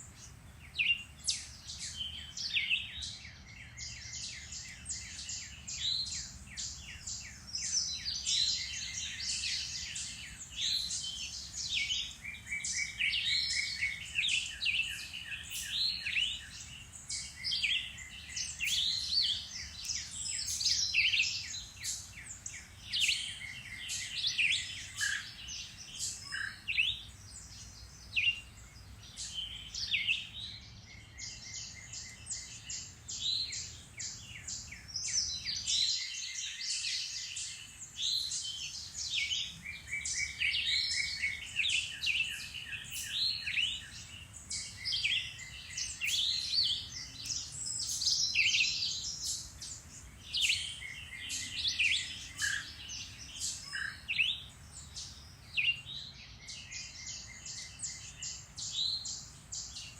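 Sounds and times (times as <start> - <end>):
songbirds singing and calling: 0.0 - 59.9.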